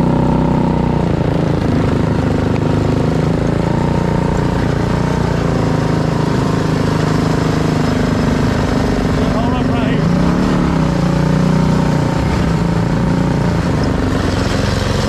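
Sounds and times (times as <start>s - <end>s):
small kart engine running: 0.0s - 15.0s.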